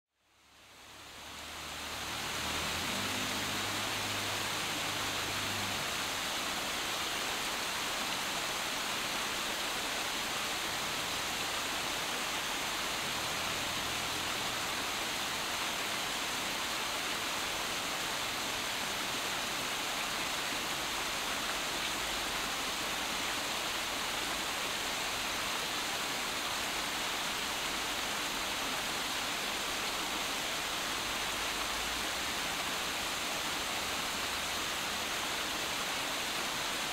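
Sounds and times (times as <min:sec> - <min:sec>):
outdoor rushing hiss: 0:00.4 - 0:36.9.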